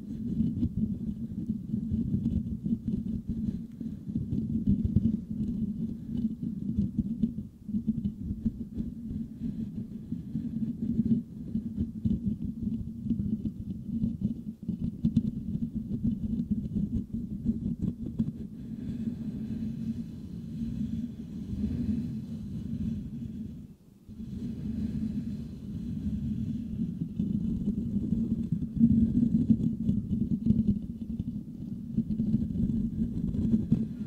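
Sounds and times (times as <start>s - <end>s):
fingertips scratching microphone grille: 0.0s - 34.0s.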